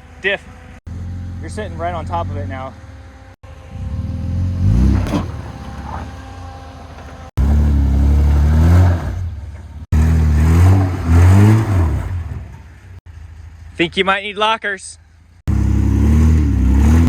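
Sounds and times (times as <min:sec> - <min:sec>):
off-road truck engine revving: 0:00.0 - 0:14.0, 0:15.3 - 0:17.0.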